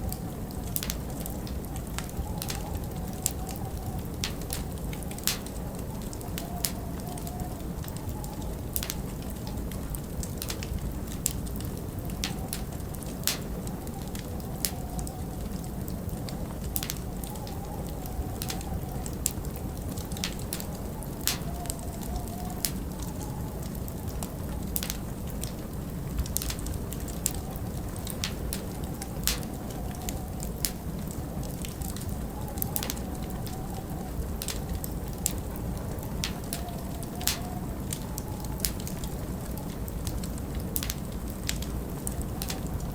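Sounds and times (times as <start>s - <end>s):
log fire crackling and popping: 0.0s - 42.9s.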